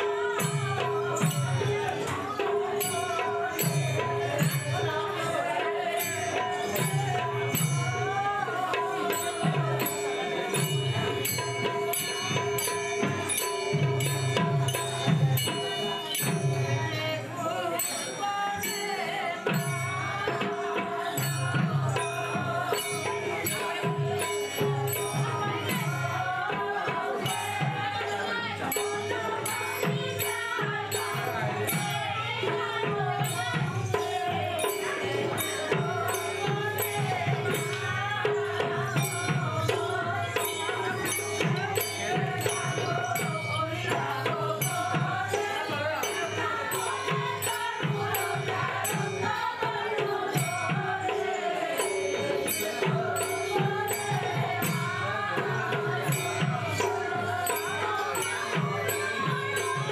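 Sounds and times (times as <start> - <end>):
devotional singing: 0.0 - 59.9
jingling percussion: 0.0 - 59.9.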